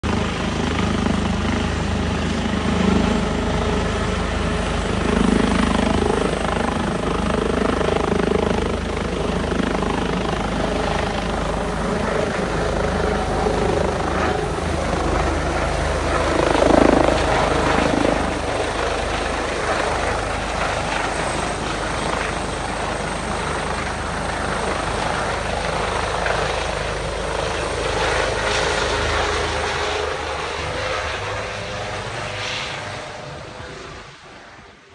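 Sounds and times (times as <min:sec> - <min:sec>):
helicopter turbine and rotor drone: 0:00.0 - 0:34.9.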